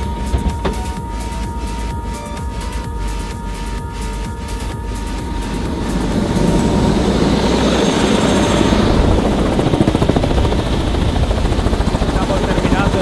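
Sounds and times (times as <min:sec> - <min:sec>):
helicopter rotor blades beating: 0:00.0 - 0:13.0.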